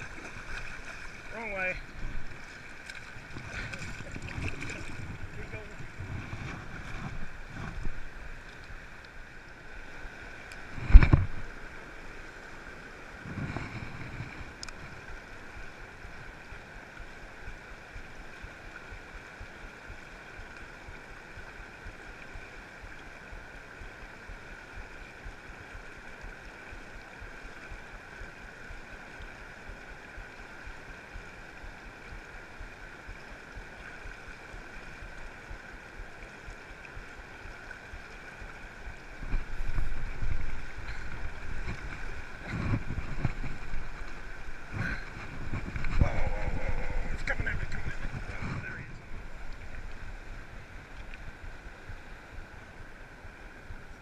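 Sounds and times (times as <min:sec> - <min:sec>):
turbulent river water rushing: 0:00.0 - 0:54.0.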